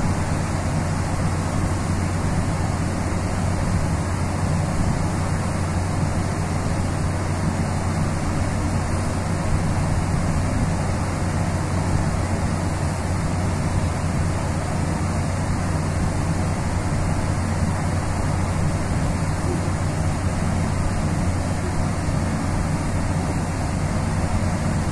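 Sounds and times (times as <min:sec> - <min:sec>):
ship engines droning: 0:00.0 - 0:24.9
wind and water rushing: 0:00.0 - 0:24.9.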